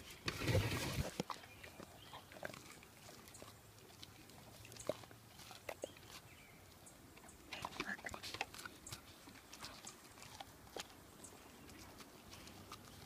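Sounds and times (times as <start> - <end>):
dog crunching corn kernels: 0.0 - 13.0.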